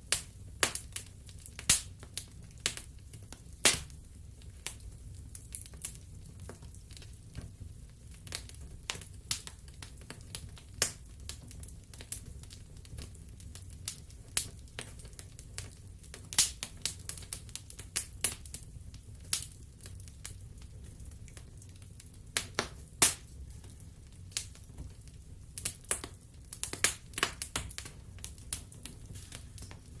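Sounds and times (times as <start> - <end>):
fire low rumble: 0.0 - 30.0
wood fire crackling: 0.0 - 30.0.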